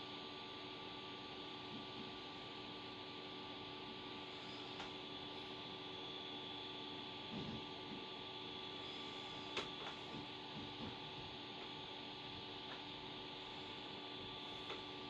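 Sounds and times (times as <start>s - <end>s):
electrical hum: 0.0s - 15.0s
faint high whine: 0.0s - 15.0s.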